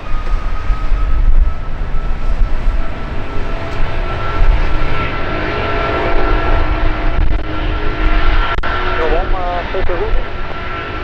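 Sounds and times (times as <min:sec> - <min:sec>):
aircraft engines running: 0:00.0 - 0:11.0
deep rumble: 0:00.0 - 0:11.0
low steady tones: 0:00.0 - 0:11.0
steady high whine: 0:00.0 - 0:11.0.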